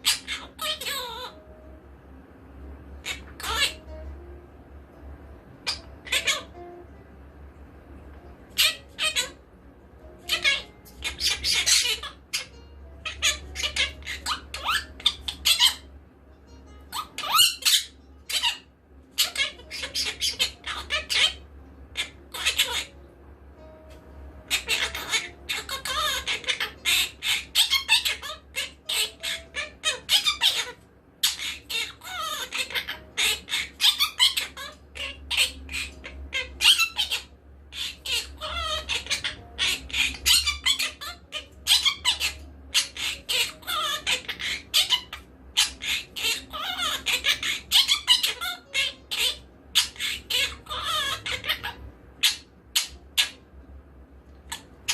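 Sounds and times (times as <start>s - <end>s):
parrot chattering and squawking: 0.0s - 1.8s, 2.5s - 4.3s, 4.9s - 7.3s, 8.1s - 54.9s.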